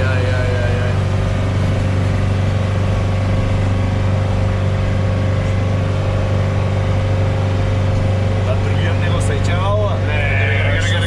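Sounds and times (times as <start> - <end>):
truck engine droning with whine: 0.0 - 11.0.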